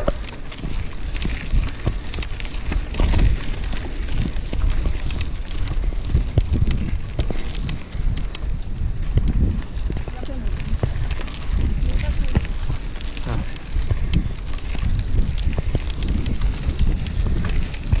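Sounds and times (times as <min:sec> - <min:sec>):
bicycle tyre crackles and clicks: 0:00.0 - 0:18.0
wind rumbling on microphone: 0:00.0 - 0:18.0.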